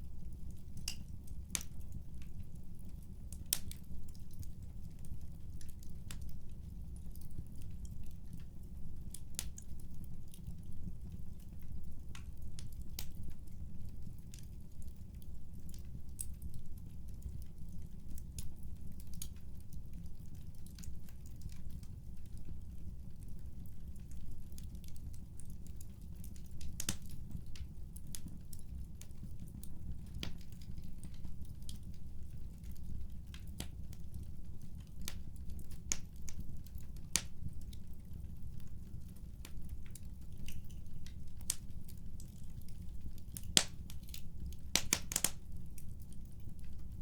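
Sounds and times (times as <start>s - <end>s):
fireplace crackling: 0.0s - 47.0s.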